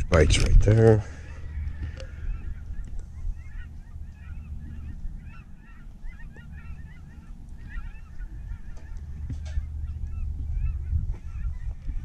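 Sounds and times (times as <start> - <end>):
geese honking: 0.0 - 12.0
wind rumble on microphone: 0.0 - 12.0.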